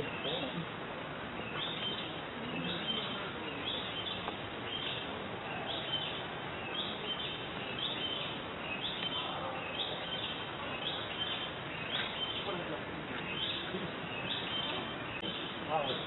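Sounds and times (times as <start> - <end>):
bird chirping: 0.0 - 0.7, 1.4 - 16.0
steady background hiss: 0.0 - 16.0.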